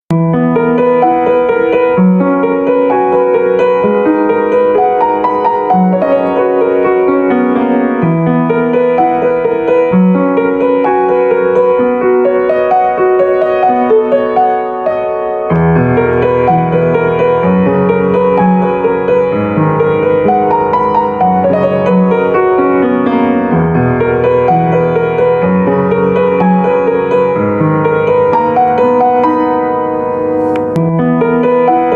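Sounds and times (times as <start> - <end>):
piano background music: 0.1 - 31.9.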